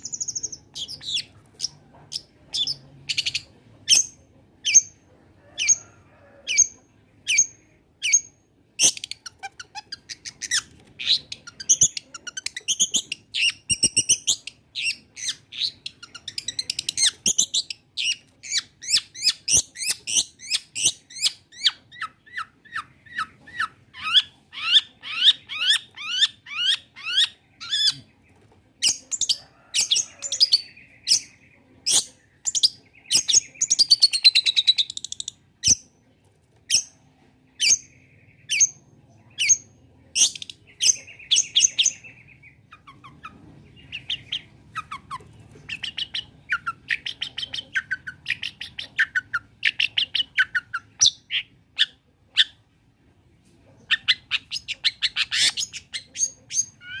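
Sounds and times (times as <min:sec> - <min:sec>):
bird singing chattering song: 0:00.0 - 0:05.8, 0:06.5 - 0:36.0, 0:36.7 - 0:52.7, 0:53.8 - 0:57.0.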